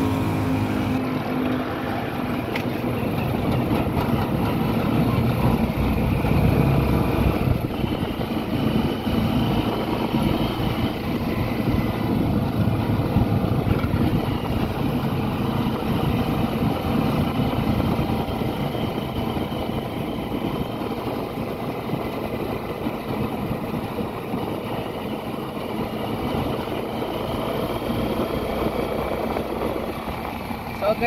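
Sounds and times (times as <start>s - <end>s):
road noise: 0.0s - 31.0s
vehicle engine: 0.0s - 31.0s.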